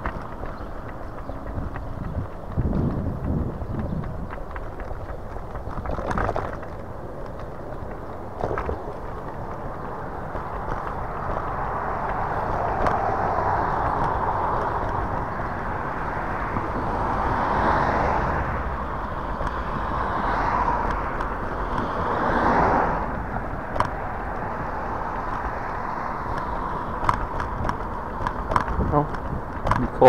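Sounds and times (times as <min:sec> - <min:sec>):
traffic rushing by: 0:00.0 - 0:30.0
wind on microphone: 0:00.0 - 0:30.0.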